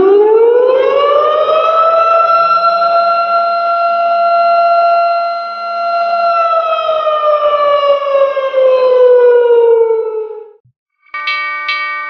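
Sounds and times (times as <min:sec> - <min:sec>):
siren wailing: 0:00.0 - 0:10.6.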